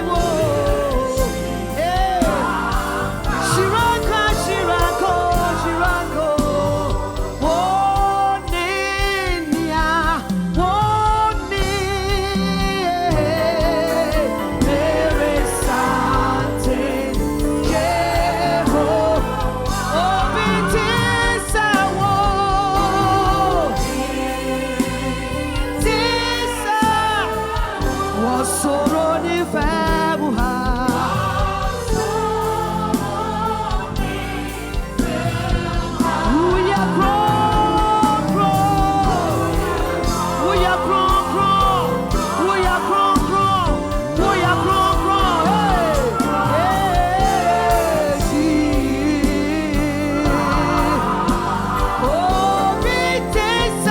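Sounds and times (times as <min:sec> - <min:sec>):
choir singing: 0:00.0 - 0:53.9
instrumental band playing: 0:00.0 - 0:53.9
person singing with vibrato: 0:00.0 - 0:53.9.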